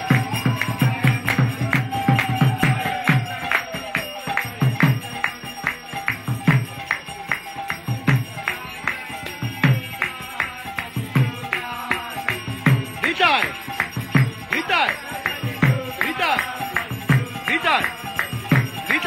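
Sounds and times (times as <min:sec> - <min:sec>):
hand cymbal clashes: 0:00.0 - 0:19.0.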